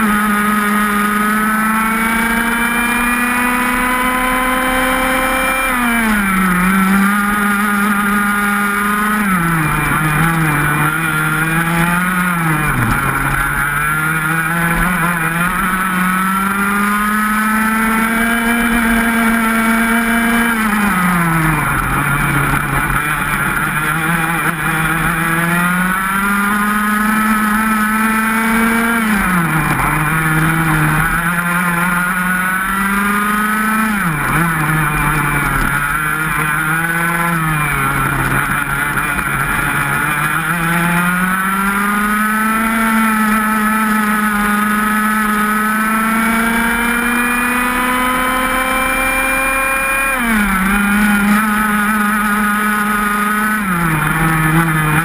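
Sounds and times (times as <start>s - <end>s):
racing kart engine: 0.0s - 55.0s.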